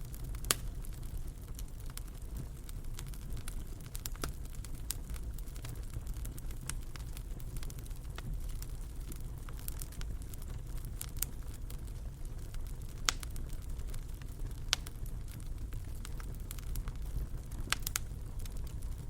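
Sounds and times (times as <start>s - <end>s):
fire crackling and popping: 0.0s - 19.0s
low steady rumble: 0.0s - 19.0s.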